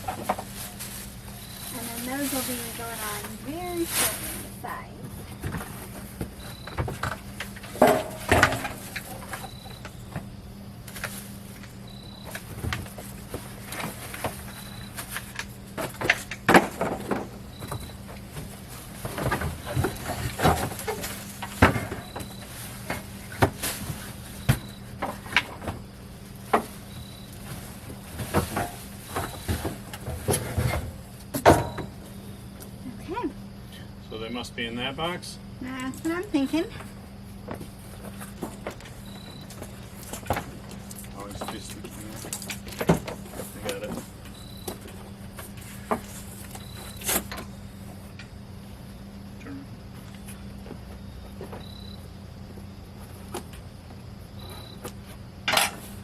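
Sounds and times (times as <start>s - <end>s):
knocks and clunks of grill parts: 0.0s - 1.0s, 2.1s - 32.7s, 36.1s - 48.4s, 52.9s - 56.0s.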